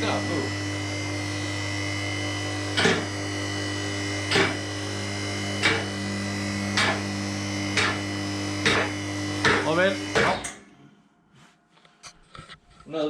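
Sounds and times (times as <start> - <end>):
electric pump motor humming: 0.0 - 10.8.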